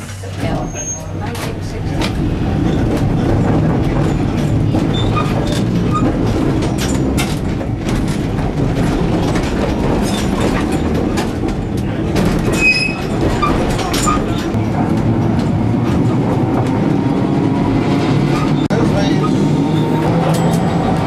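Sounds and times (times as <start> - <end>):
tram rumbling along track: 0.0 - 21.0.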